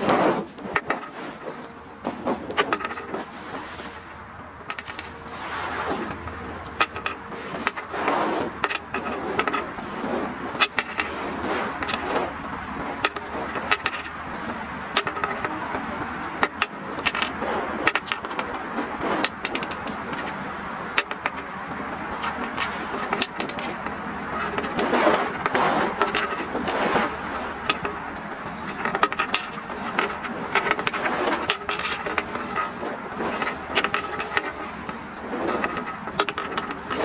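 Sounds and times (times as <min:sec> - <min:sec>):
sharp clicks and knocks: 0:00.0 - 0:37.0
steady noisy background: 0:00.0 - 0:37.0.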